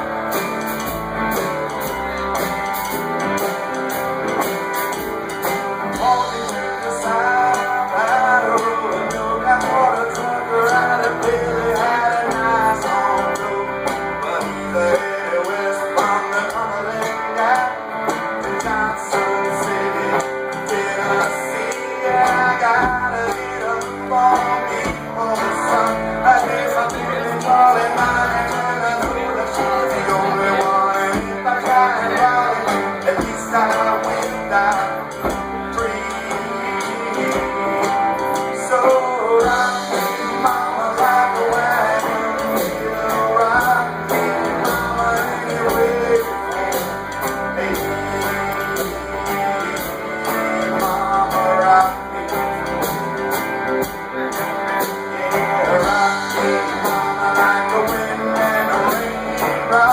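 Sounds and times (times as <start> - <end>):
guitar: 0.0 - 59.9
live rock band: 0.0 - 59.9
man singing: 2.8 - 59.9.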